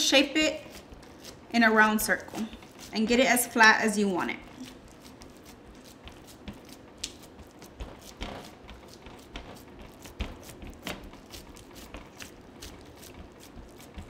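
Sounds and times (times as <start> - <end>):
soft squishing of dough: 0.0 - 14.0.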